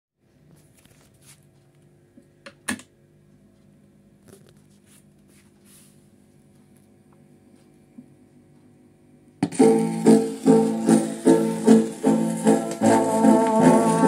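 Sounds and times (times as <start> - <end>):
turntable low steady hum: 1.6 - 14.0.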